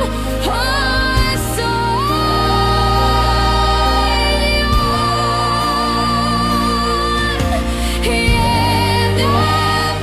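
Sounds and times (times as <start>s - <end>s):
gospel singing with held note: 0.0s - 10.0s
sustained chords: 0.0s - 10.0s.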